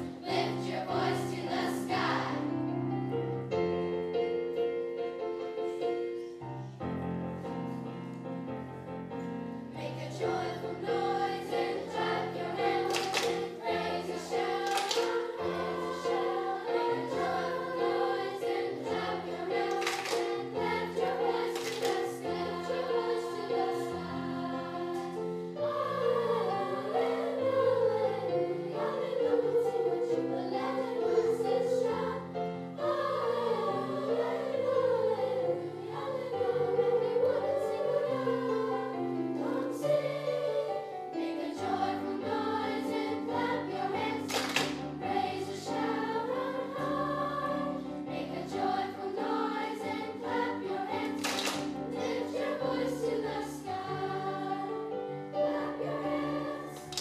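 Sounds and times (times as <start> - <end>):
children's choir singing: 0.0 - 57.0
keyboard accompaniment: 0.0 - 57.0.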